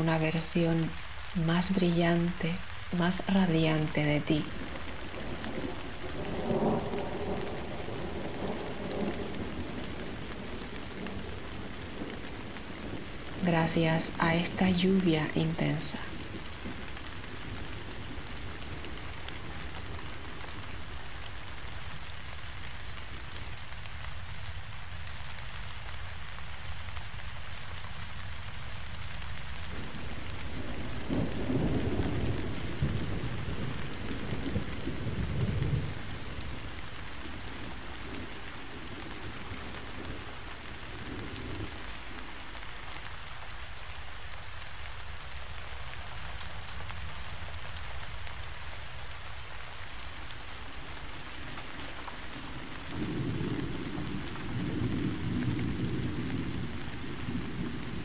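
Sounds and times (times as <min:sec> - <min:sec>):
low thunder rumbling: 0:00.0 - 0:23.4, 0:28.7 - 0:58.0
heavy rain: 0:00.0 - 0:58.0.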